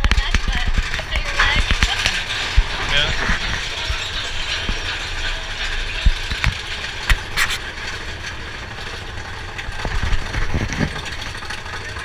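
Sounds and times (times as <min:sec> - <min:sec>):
coaster cars clacking: 0:00.0 - 0:12.0
roller coaster rumbling on track: 0:00.0 - 0:12.0.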